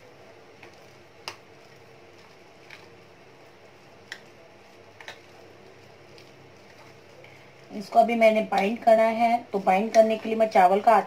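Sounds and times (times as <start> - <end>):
spoon squishing thick paste: 0.5 - 7.8, 8.4 - 11.0.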